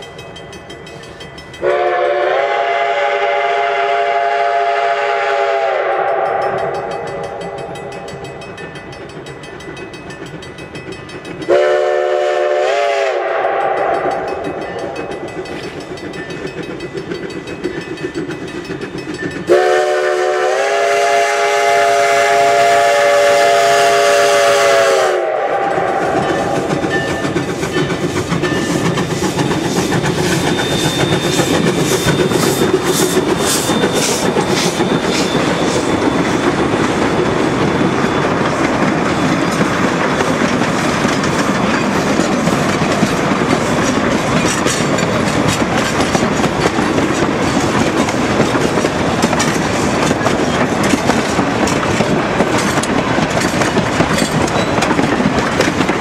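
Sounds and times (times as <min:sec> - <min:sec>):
train coaches rolling past: 0:00.0 - 0:56.0
train wheels clicking over rail joints: 0:06.1 - 0:25.0, 0:25.6 - 0:56.0.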